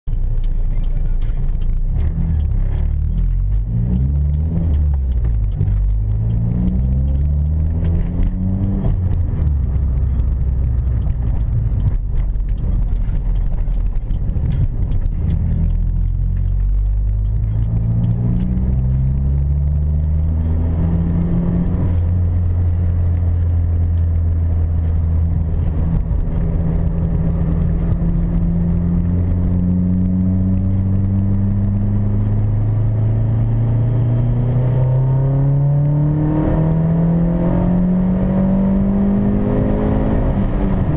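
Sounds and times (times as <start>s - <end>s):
turbocharged car engine revving: 0.1s - 40.9s.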